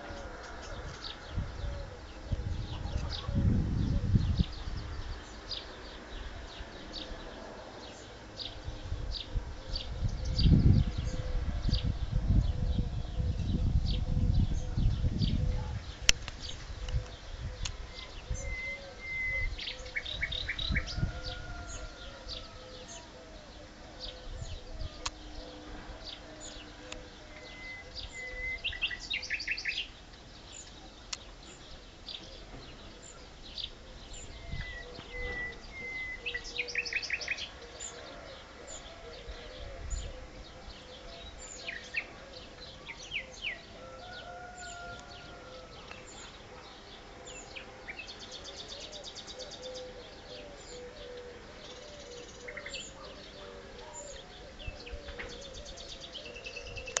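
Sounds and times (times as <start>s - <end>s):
birds trilling and chirping: 0.0s - 57.0s
repeated bird calls: 0.0s - 57.0s.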